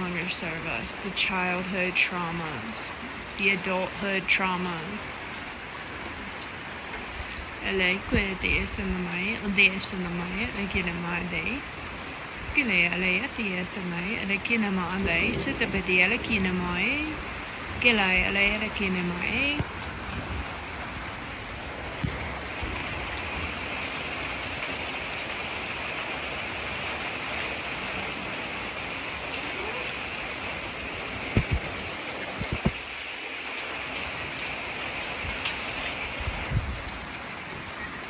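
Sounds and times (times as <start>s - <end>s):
rain pattering on pavers and roof: 0.0s - 38.0s.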